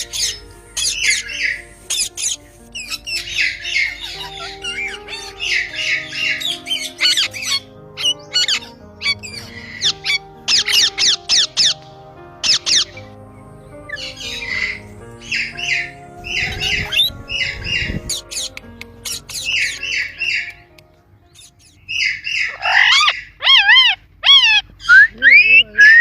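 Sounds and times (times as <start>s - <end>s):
parrot squawking: 0.0s - 11.8s, 13.9s - 20.8s, 21.4s - 26.0s
background music with held notes: 0.0s - 22.7s.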